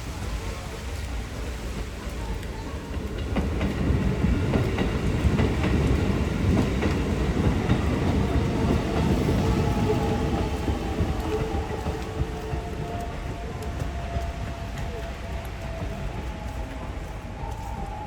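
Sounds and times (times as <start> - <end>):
train rumbling on rails: 0.0 - 18.0
wheels clicking over rail joints: 0.2 - 18.0.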